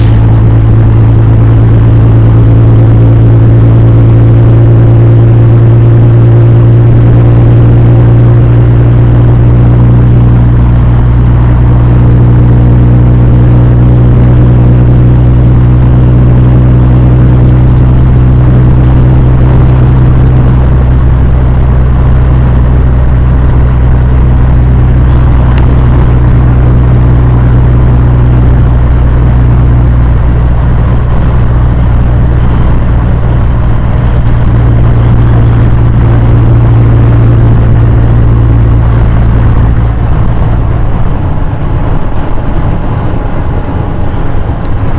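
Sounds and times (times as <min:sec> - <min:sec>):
road noise: 0:00.0 - 0:44.9
vehicle engine hum: 0:00.0 - 0:44.9.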